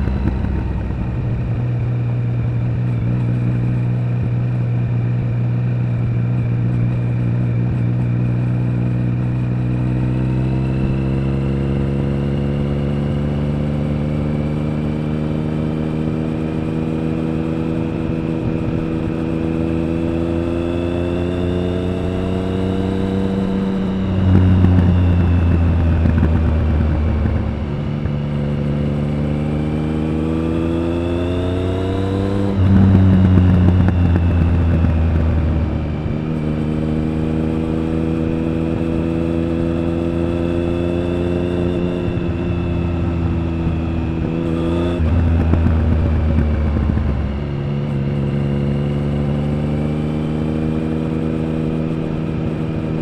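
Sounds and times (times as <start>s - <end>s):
motorcycle engine and exhaust: 0.0s - 53.0s.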